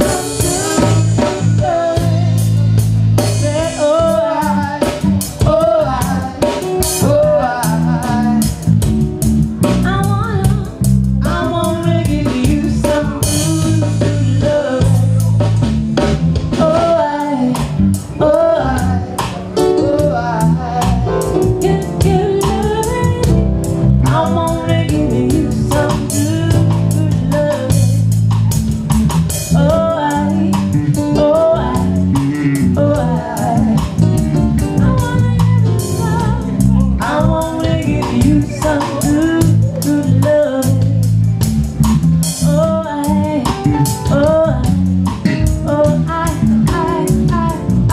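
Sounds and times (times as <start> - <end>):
woman singing: 0.0 - 9.0, 9.6 - 15.6, 16.5 - 28.4, 29.4 - 41.4, 42.3 - 47.9
drum kit: 0.0 - 47.9
reggae guitar: 0.0 - 47.9.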